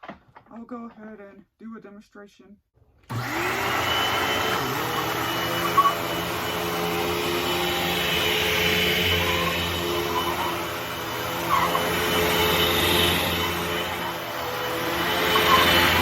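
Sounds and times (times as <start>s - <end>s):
vacuum cleaner running: 3.1s - 16.0s.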